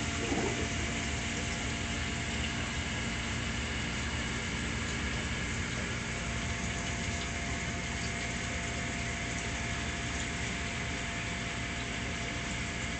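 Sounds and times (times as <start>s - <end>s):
aquarium pump hum and water rush: 0.0s - 12.9s
thin steady whine: 0.0s - 12.9s.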